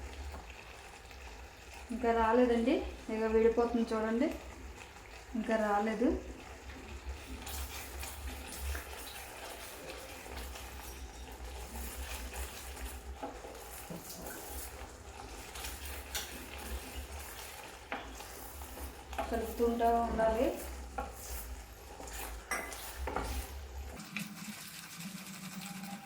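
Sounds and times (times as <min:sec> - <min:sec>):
spoon stirring thick mixture: 0:00.0 - 0:24.2
soft sizzle: 0:00.0 - 0:26.0.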